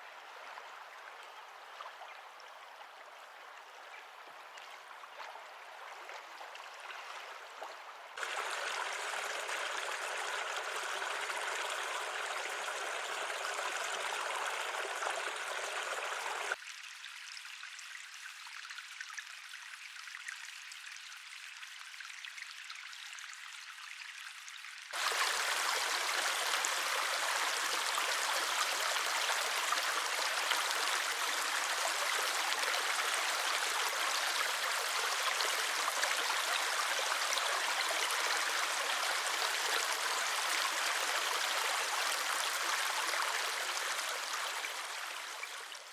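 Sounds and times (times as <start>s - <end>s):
running water trickling: 4.4s - 45.9s.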